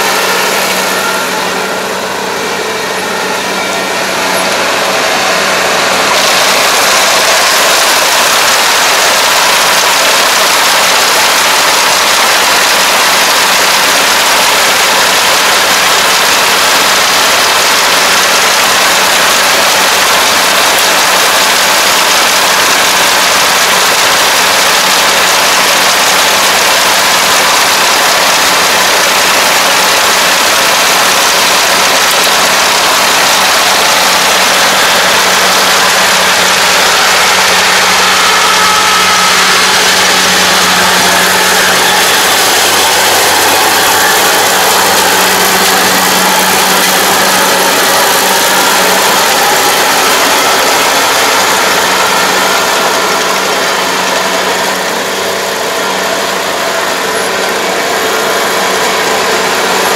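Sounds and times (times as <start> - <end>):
combine harvester machinery roar: 0.0 - 59.9.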